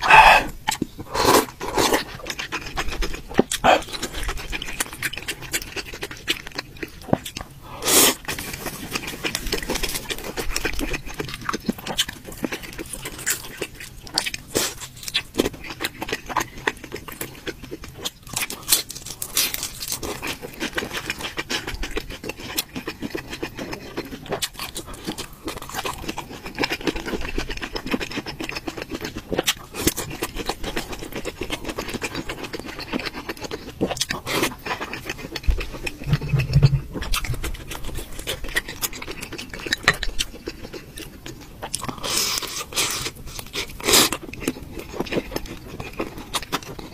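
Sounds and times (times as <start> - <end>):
wet chewing and slurping: 0.0 - 46.9.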